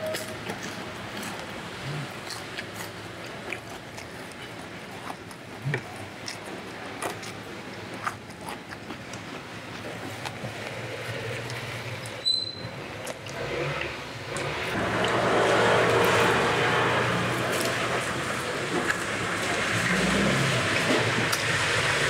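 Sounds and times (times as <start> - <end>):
man chewing and biting: 0.0 - 20.5.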